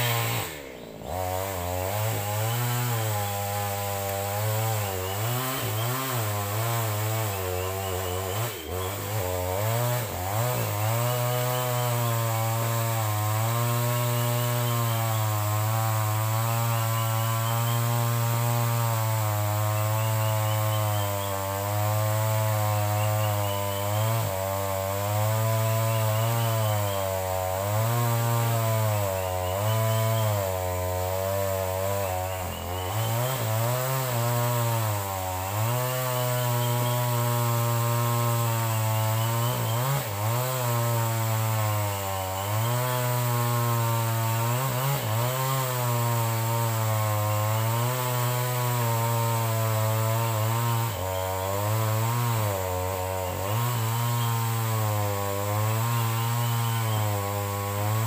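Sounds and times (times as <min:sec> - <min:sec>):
chainsaw engine running: 0:00.0 - 0:58.0.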